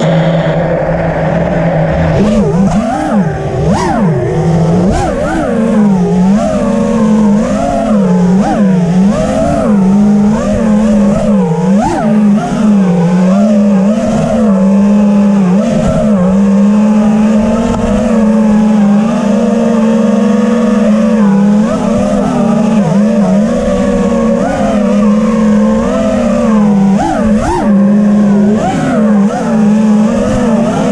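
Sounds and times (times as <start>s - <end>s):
drone motors buzzing: 0.0s - 30.9s
rumble of air noise: 0.0s - 30.9s.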